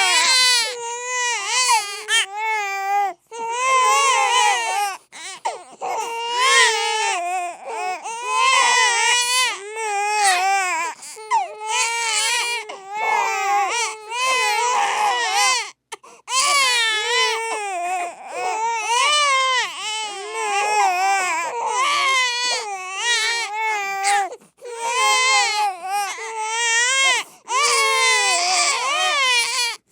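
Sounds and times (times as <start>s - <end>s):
babies crying: 0.0s - 29.8s.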